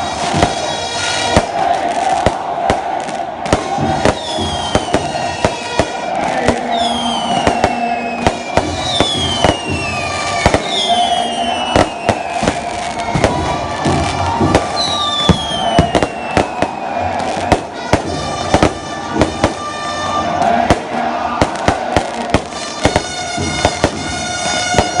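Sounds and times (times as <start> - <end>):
fireworks bangs: 0.0 - 25.0
whistling rockets: 3.5 - 19.7, 20.6 - 25.0.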